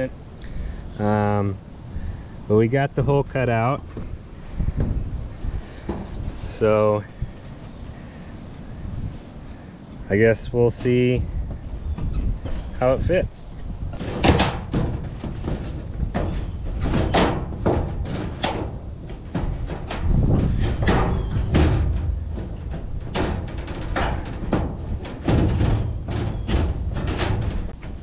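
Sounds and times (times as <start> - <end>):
sheet metal clanking and scraping: 3.4 - 28.0.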